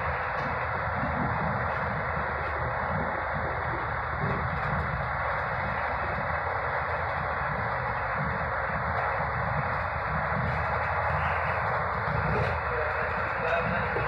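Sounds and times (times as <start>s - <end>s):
train rushing noise from on board: 0.0s - 14.0s.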